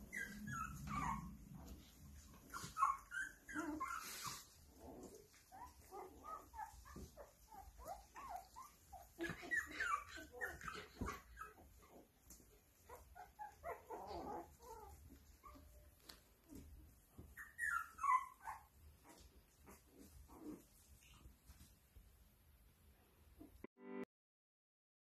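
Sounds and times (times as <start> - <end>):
newborn puppies whimpering: 0.0 - 20.8.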